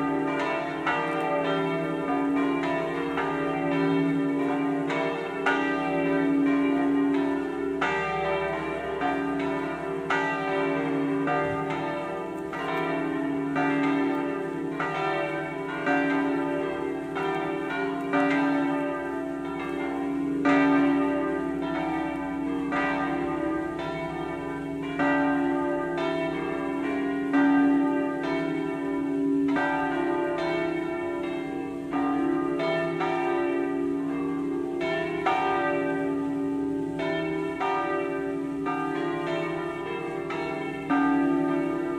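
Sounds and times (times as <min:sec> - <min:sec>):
church bells pealing: 0:00.0 - 0:41.9.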